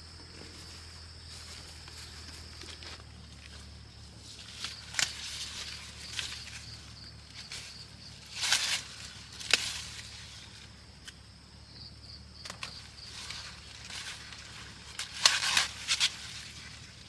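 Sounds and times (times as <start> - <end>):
dry rustles or crunches: 0.0 - 10.8, 12.4 - 17.0.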